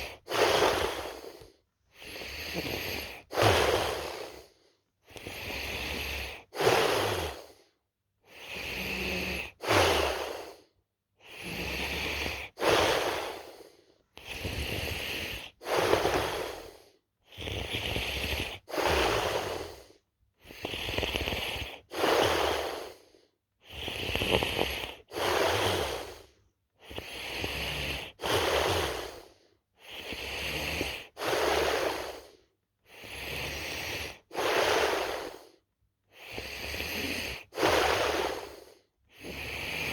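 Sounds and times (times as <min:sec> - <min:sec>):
person snoring: 0:00.0 - 0:07.7, 0:08.3 - 0:39.9.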